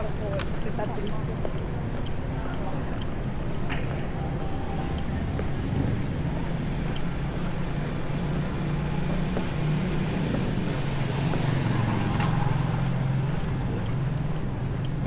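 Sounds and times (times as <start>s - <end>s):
city street traffic hum: 0.0s - 15.0s.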